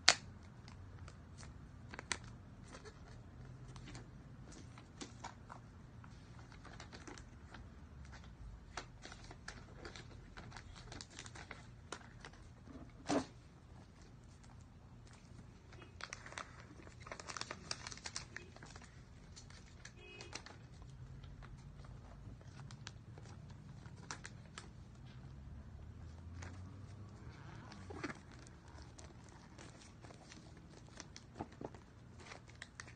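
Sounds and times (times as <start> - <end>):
plastic crinkling: 0.1 - 25.4, 26.0 - 32.9.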